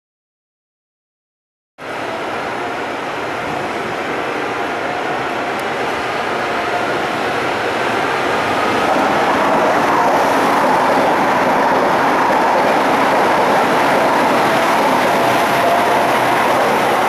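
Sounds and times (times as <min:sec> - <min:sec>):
electric locomotive whine: 0:01.8 - 0:17.0
train coaches rolling on rails: 0:01.8 - 0:17.0.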